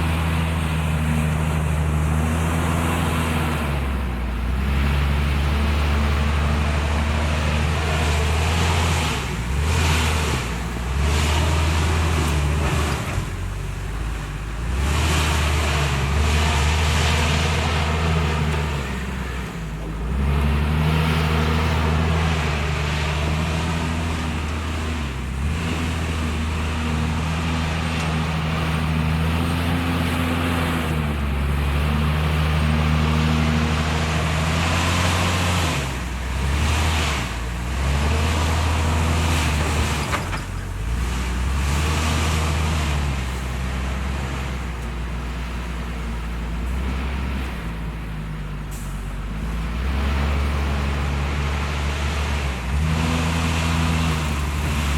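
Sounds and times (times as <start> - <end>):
loader diesel engine working: 0.0 - 54.9.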